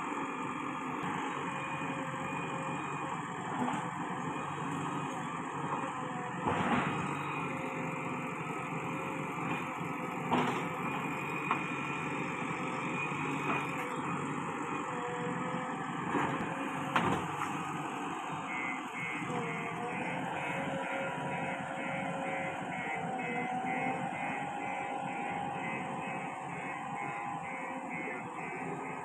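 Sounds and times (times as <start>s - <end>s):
diesel engine running under load: 0.0s - 29.0s.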